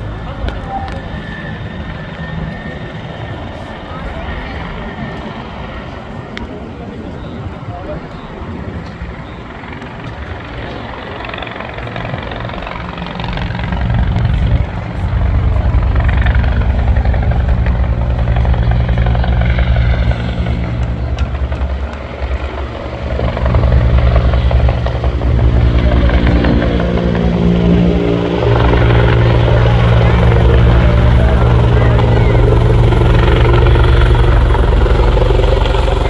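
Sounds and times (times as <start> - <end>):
helicopter rotor beating: 0.0 - 36.0
turbine engines droning: 0.0 - 36.0.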